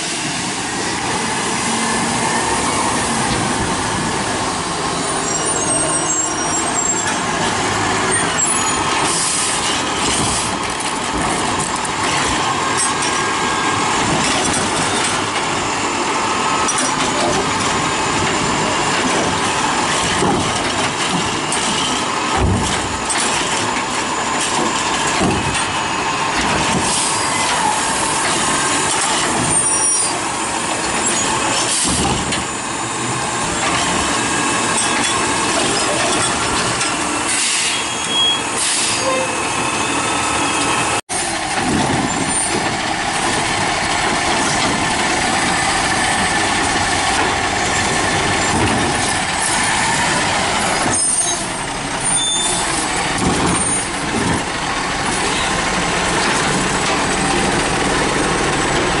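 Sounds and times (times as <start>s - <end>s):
garbage truck engine and hydraulics: 0.0s - 59.0s.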